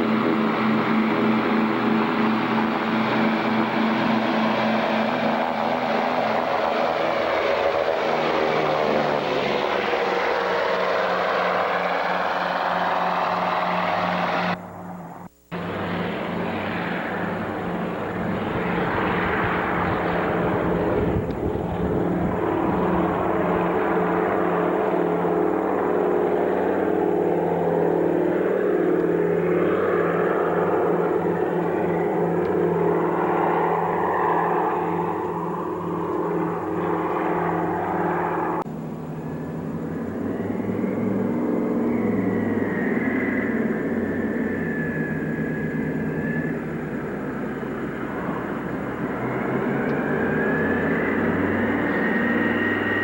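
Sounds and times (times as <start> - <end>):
propeller aircraft engines droning: 0.0 - 53.0.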